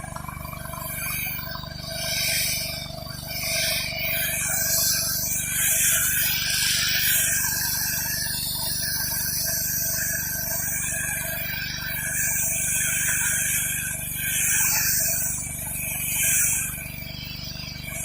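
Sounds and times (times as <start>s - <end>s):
water jet hissing on concrete: 0.5s - 18.0s.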